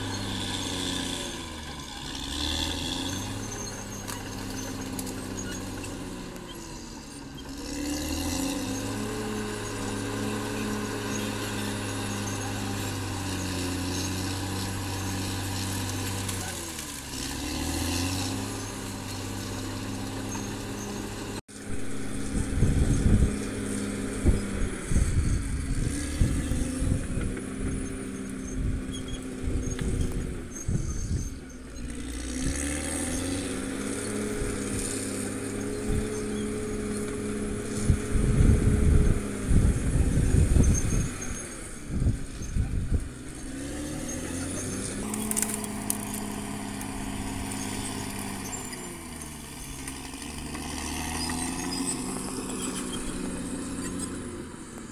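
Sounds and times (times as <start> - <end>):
bulldozer diesel engine under load: 0.0 - 54.9.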